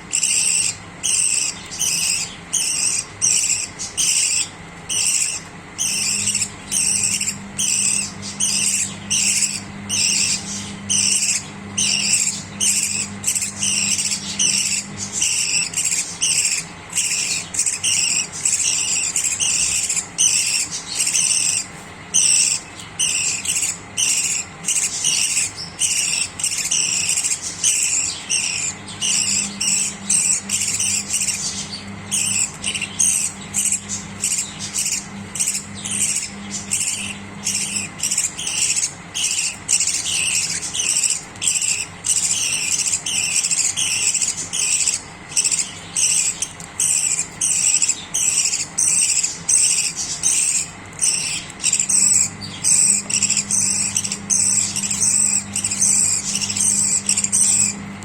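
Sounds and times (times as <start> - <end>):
budgerigars chirping: 0.0 - 57.8.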